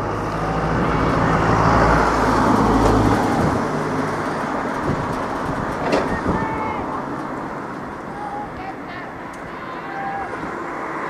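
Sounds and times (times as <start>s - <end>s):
low engine hum: 0.0s - 11.0s
passing vehicles rumbling: 0.0s - 11.0s.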